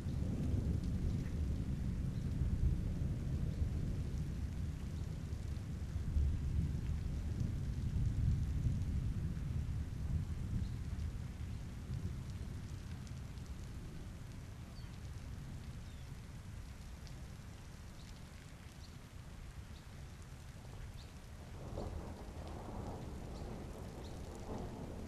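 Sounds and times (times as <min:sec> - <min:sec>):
low rumble of thunder: 0:00.0 - 0:16.8, 0:20.7 - 0:25.0
steady rain falling: 0:00.0 - 0:25.0.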